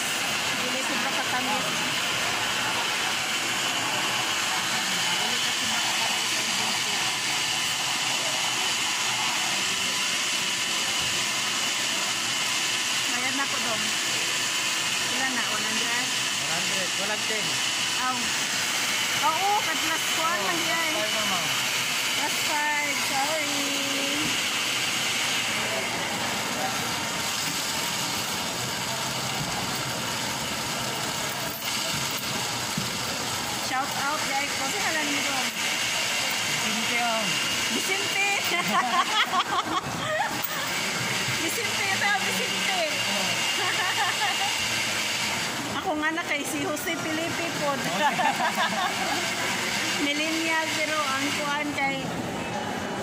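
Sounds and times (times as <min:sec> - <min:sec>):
blender motor whirring: 0:00.0 - 0:53.0.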